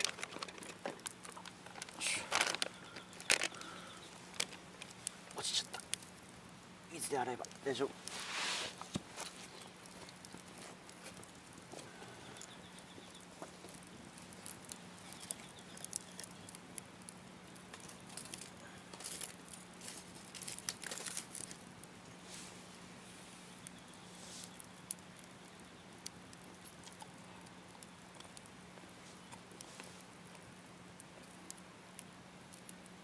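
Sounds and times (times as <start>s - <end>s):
campfire crackling: 0.0s - 33.0s
faint steady hum: 0.0s - 33.0s.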